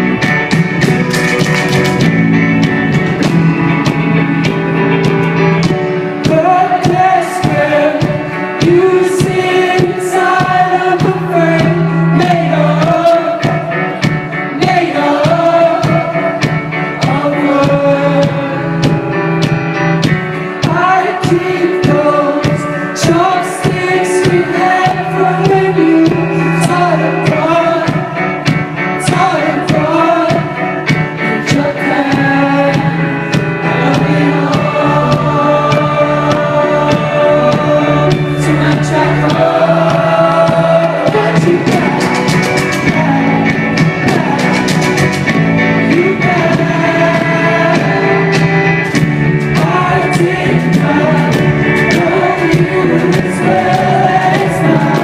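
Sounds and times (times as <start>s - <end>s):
live rock band: 0.0s - 55.0s
voices singing in harmony: 6.1s - 19.0s, 20.6s - 55.0s.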